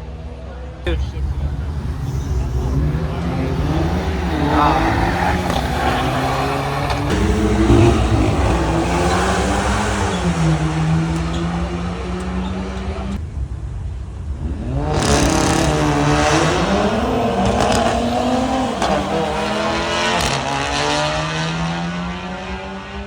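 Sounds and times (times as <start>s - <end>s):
car engine revving: 0.9s - 23.0s.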